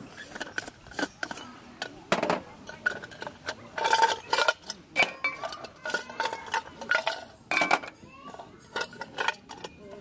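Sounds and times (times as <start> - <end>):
metal cookware clinking: 0.1 - 10.0.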